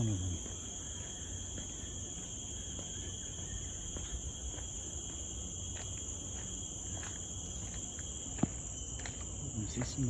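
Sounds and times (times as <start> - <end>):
shrill insect drone: 0.0 - 10.0.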